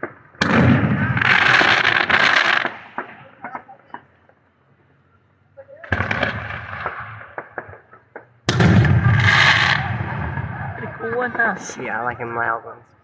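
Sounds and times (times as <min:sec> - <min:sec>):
fireworks bursting: 0:00.0 - 0:04.5, 0:05.8 - 0:13.0
fireworks crackling: 0:00.0 - 0:13.0.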